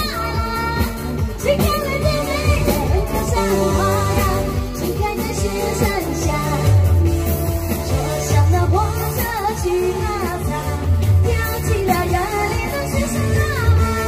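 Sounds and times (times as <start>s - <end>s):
backing track with bass and beat: 0.0s - 14.0s
woman singing into microphone: 0.0s - 14.0s.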